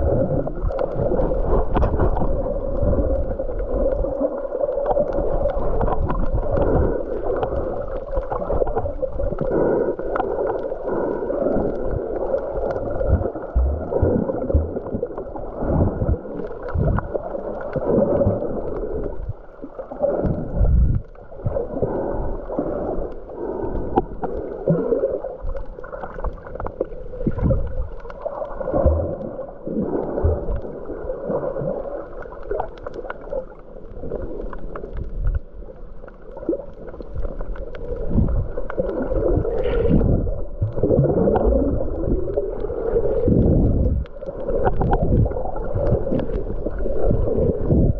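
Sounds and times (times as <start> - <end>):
gurgling bubbles: 0.0 - 47.9
underwater sloshing: 0.0 - 47.9.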